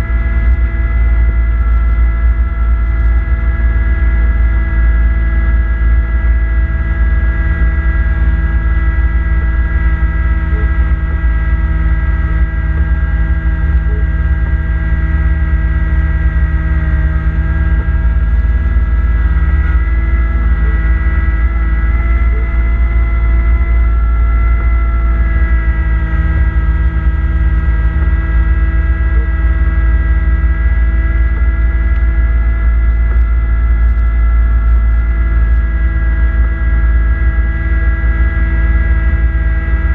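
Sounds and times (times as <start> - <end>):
diesel tractor engine droning: 0.0 - 39.9.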